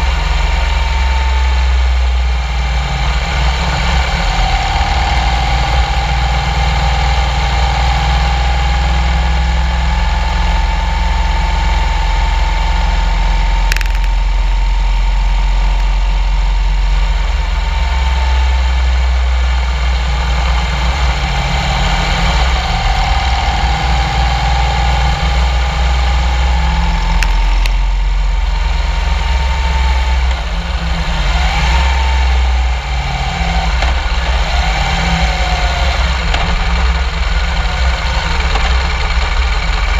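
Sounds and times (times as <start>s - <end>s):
motorcycle engine whine: 0.0s - 39.9s.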